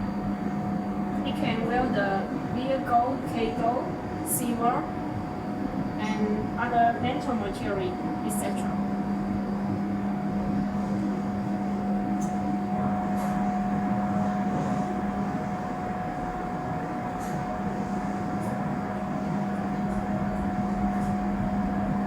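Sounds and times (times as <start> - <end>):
equipment humming: 0.0 - 22.0.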